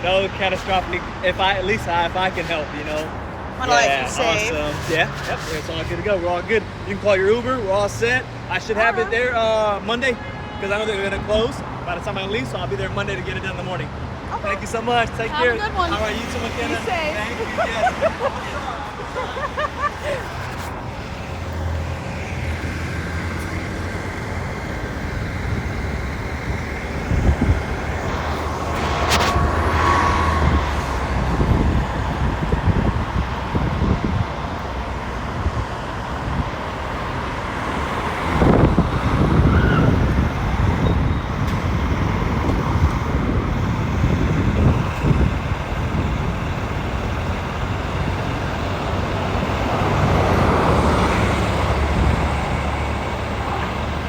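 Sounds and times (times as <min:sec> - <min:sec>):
traffic engines humming: 0:00.0 - 0:54.0
vehicles passing: 0:00.0 - 0:54.0.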